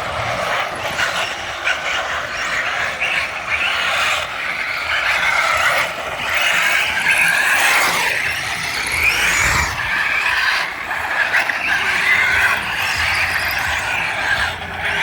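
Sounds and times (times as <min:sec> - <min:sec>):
electric motors whining: 0:00.0 - 0:15.0
tyres scraping and skidding: 0:00.0 - 0:15.0.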